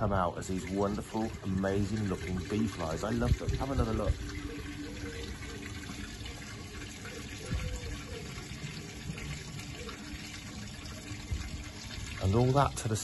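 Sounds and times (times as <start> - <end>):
washing machine draining water: 0.0 - 13.0.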